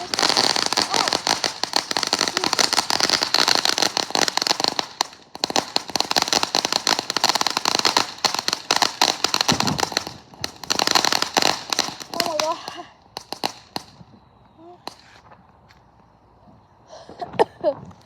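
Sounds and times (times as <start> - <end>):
fireworks hiss: 0.0 - 14.1, 14.7 - 15.3
fireworks crackling pops: 0.0 - 16.2.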